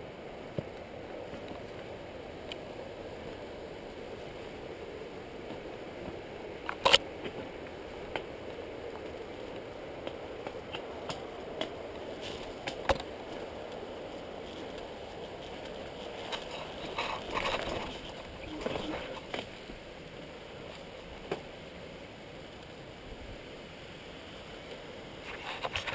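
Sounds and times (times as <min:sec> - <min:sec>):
rustling hiss of movement: 0:00.0 - 0:25.9.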